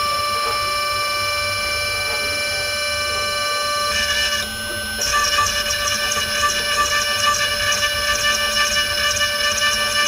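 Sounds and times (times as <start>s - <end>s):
mill cutting aluminum: 0.0s - 10.0s
spindle whining: 0.0s - 10.0s.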